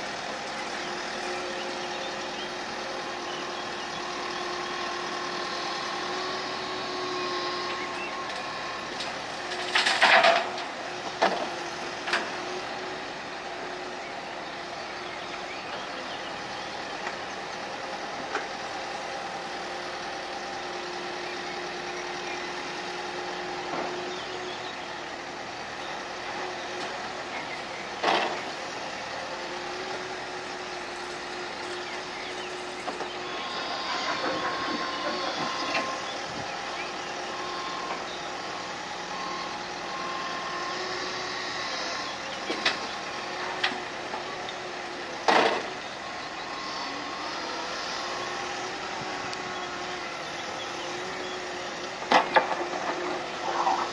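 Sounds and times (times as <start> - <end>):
excavator engine and hydraulics droning: 0.0 - 53.9.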